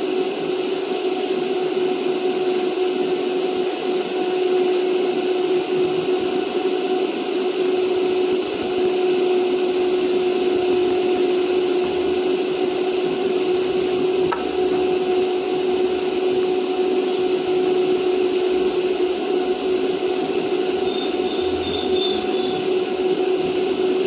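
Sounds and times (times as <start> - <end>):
steady hum: 0.0 - 24.0
welding arc crackling and hissing: 2.2 - 6.8, 7.5 - 24.0.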